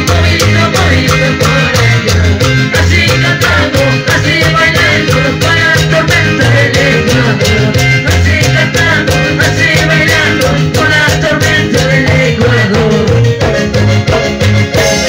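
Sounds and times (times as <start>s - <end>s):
dance music over loudspeakers: 0.0s - 15.0s.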